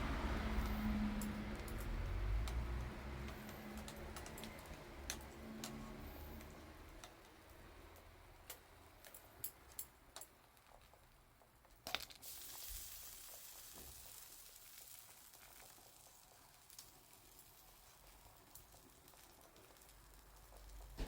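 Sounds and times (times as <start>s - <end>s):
soft steady hiss: 0.0s - 21.0s
wood fire crackling: 0.0s - 21.0s.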